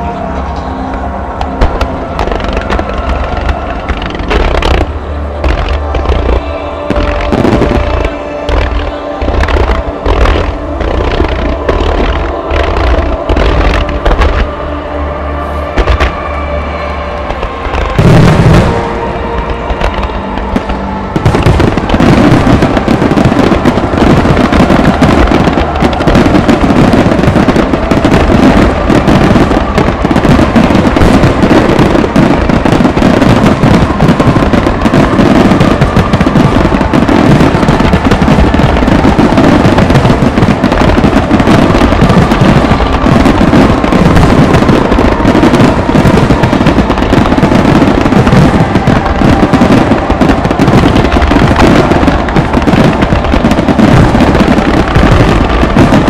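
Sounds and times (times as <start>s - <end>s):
fireworks barrage bursting: 0.0s - 14.7s, 15.6s - 56.0s.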